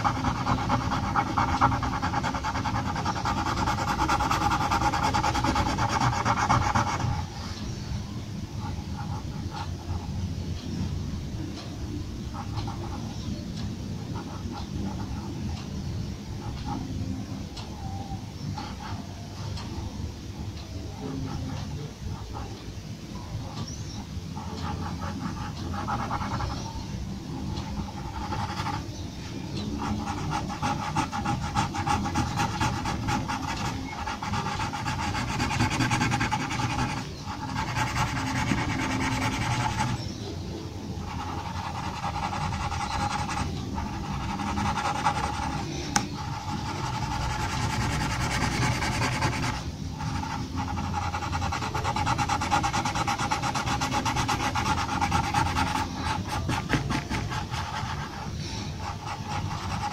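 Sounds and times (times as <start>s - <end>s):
pencil scratching on paper: 0.0s - 7.5s, 8.6s - 10.1s, 12.3s - 13.2s, 14.0s - 15.6s, 16.3s - 17.0s, 20.9s - 22.6s, 23.4s - 40.4s, 41.0s - 59.9s.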